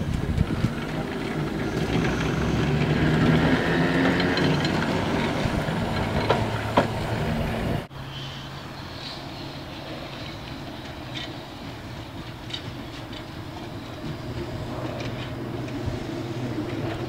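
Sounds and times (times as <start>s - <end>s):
steel wheels rumbling on rails: 0.0s - 17.0s
tram motor hum: 0.0s - 17.0s.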